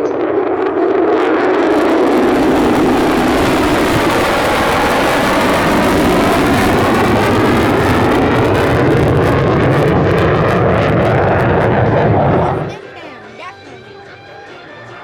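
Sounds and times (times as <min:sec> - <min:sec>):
jet flying past: 0:00.0 - 0:12.8.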